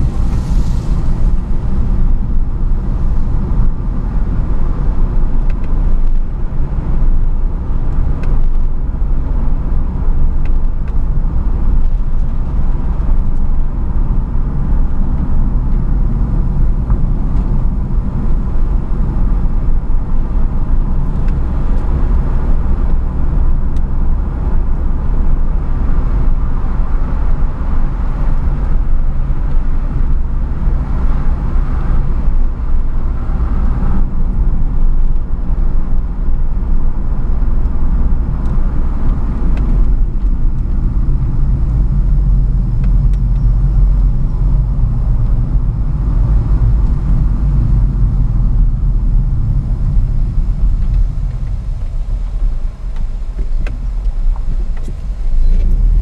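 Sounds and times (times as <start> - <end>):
car engine hum: 0.0 - 56.0
tyre rumble on road: 0.0 - 56.0.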